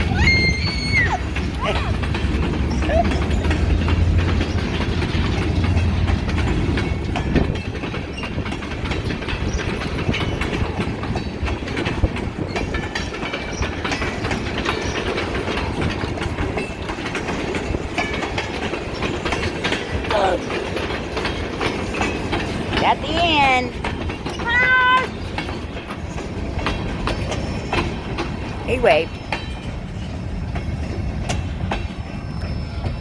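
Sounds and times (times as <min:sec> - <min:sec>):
train engine drone: 0:00.0 - 0:33.0
train wheels clickety-clack: 0:00.0 - 0:33.0.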